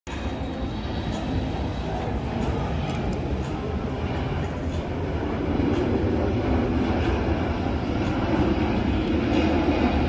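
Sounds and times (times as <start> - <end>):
jet engines rumbling: 0.1 - 10.0.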